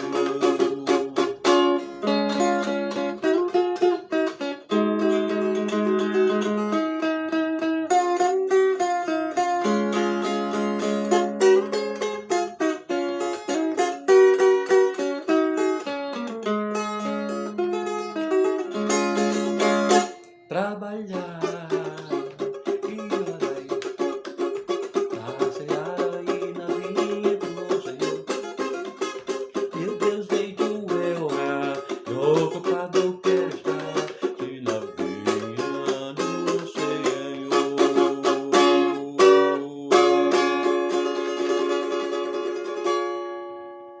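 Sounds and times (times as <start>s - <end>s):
cavaquinho strummed: 0.0s - 44.0s.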